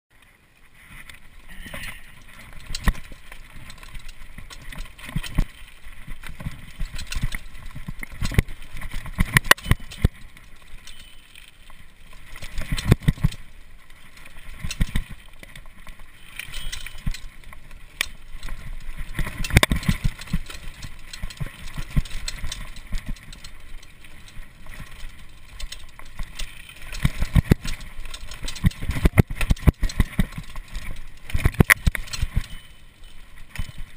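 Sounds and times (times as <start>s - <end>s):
bike tyre and trail noise: 0.1s - 33.9s
bike rattles and knocks: 0.8s - 33.9s.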